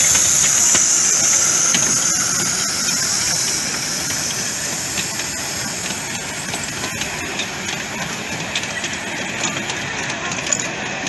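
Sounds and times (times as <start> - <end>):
steam hissing: 0.0 - 11.0
train wheels clicking over rail joints: 0.0 - 11.0.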